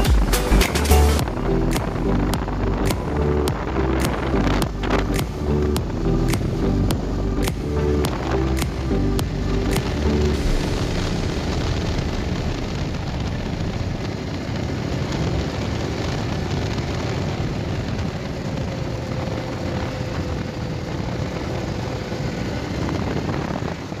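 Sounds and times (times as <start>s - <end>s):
motorcycle engine running: 0.0s - 24.0s
road noise: 0.0s - 24.0s
wind rushing: 0.0s - 24.0s.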